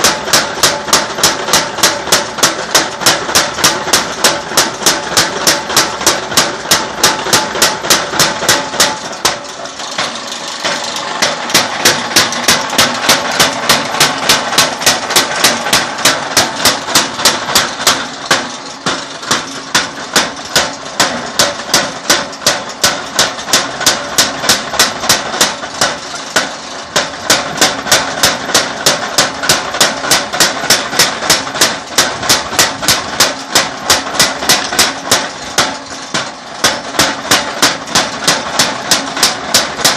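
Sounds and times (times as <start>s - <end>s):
machine running steadily: 0.0s - 39.9s
power hammer pounding hot iron: 0.0s - 39.9s.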